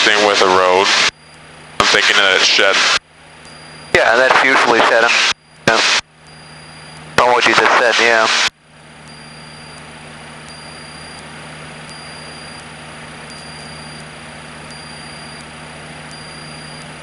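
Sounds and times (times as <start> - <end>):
propeller plane engine from cockpit: 0.0 - 17.0.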